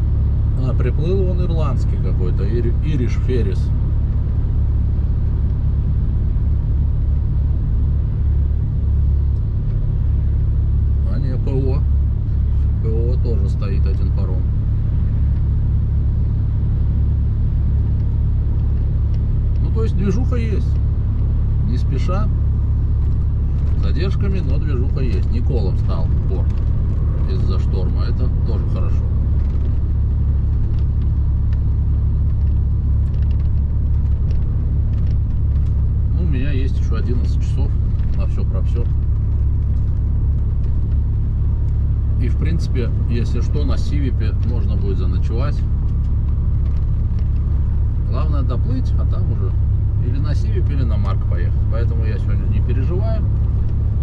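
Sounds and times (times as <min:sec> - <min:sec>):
low rumble inside truck cab: 0:00.0 - 0:54.0.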